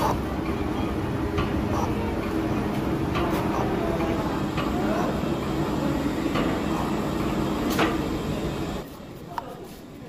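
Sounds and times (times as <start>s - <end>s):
metal shaper machine hum: 0.2s - 8.8s.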